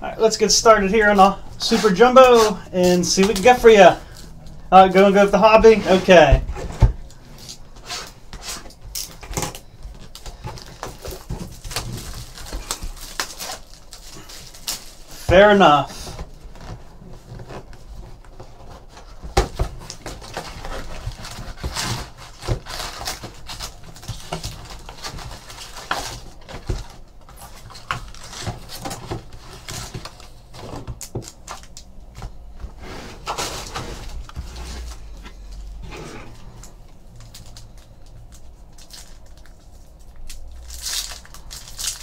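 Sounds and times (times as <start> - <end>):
foil wrappers crinkling and tearing: 0.2 - 6.4, 7.0 - 17.6, 18.3 - 32.0, 36.4 - 42.0.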